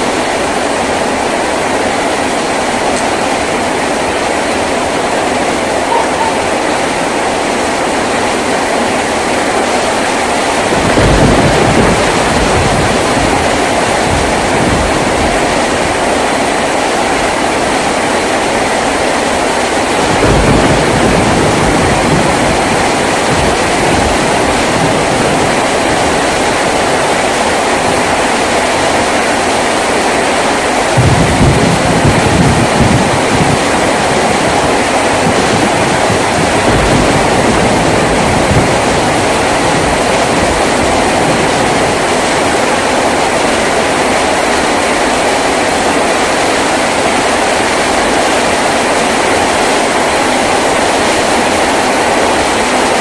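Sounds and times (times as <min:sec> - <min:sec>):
heavy rain on a tin roof: 0:00.0 - 0:53.0
rumbling rain runoff: 0:00.0 - 0:53.0.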